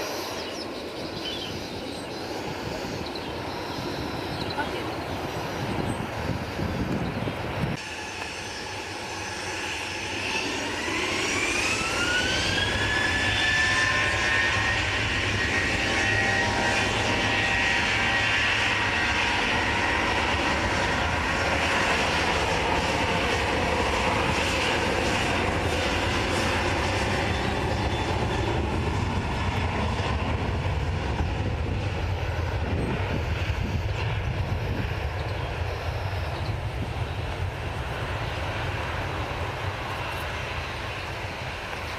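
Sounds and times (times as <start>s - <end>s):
airliner engines whining: 0.0s - 41.9s.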